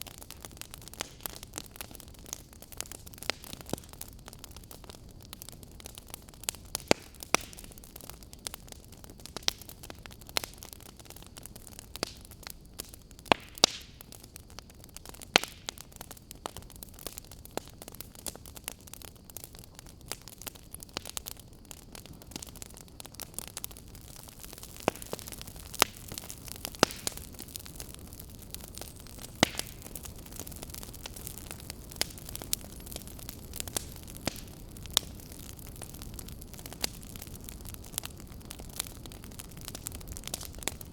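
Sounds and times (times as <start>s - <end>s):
low hiss of fire: 0.0s - 40.9s
wood fire crackling: 0.0s - 40.9s.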